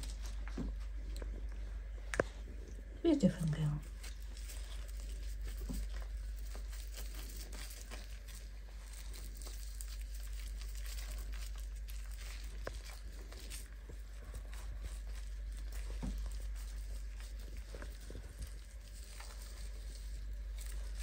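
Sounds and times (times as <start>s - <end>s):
steady low hum: 0.0s - 21.0s
hands rubbing wet fur: 3.8s - 21.0s.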